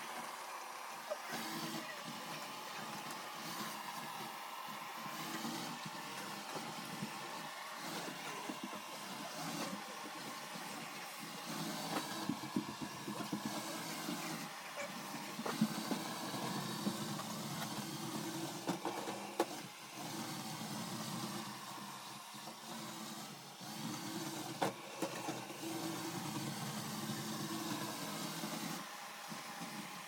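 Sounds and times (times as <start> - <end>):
robot vacuum humming: 0.0 - 30.0.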